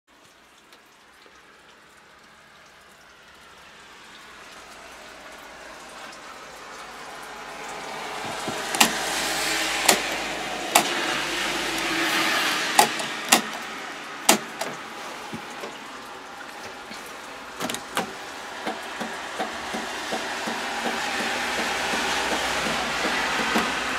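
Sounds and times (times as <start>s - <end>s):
steady rushing hiss: 4.7s - 23.9s.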